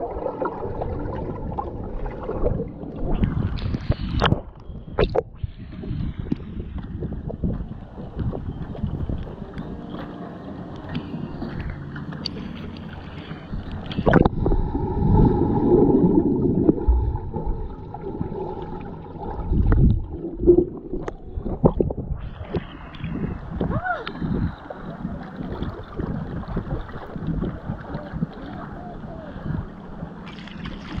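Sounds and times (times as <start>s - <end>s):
water sloshing and gurgling: 0.0s - 31.0s.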